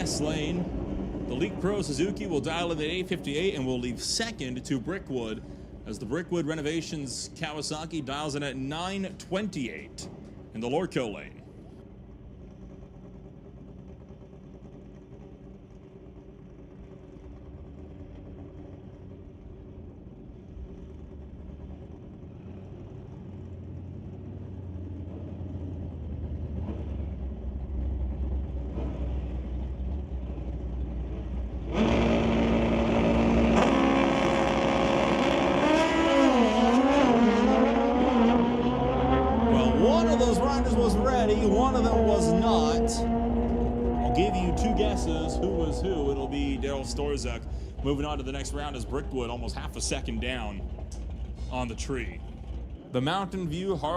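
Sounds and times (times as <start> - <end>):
motorcycle engines idling: 0.0 - 31.8, 39.4 - 53.9
motorcycle engines howling at full throttle: 0.0 - 53.9.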